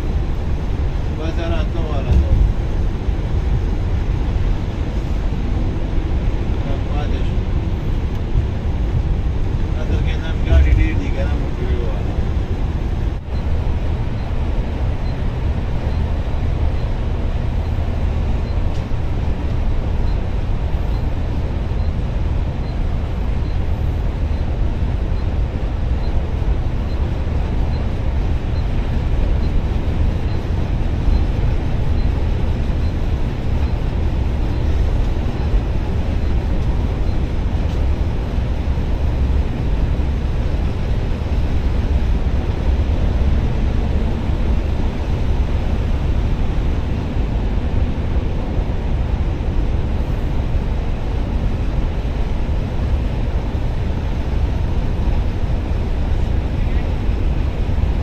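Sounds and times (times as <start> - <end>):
coach engine and road rumble: 0.0 - 58.0.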